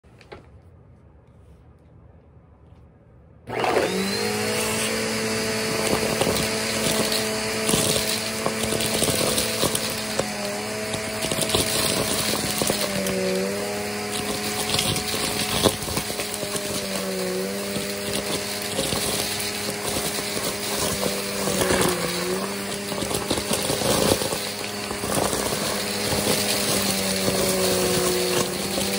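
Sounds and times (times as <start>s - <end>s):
debris rattling up a hose: 3.5s - 28.9s
vacuum cleaner running: 3.5s - 28.9s.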